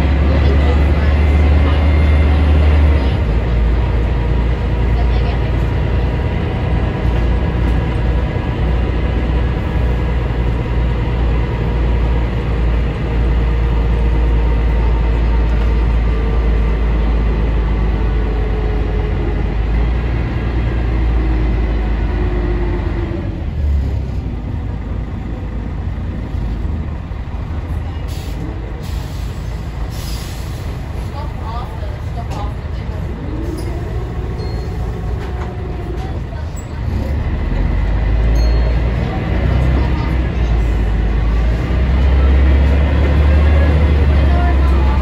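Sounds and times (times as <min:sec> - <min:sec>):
bus diesel engine rumble: 0:00.0 - 0:45.0.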